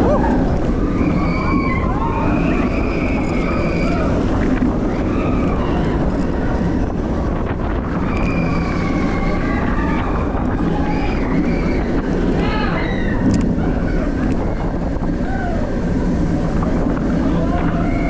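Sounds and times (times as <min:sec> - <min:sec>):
roller coaster wheels rumbling: 0:00.0 - 0:18.0
wind buffeting microphone: 0:00.0 - 0:18.0.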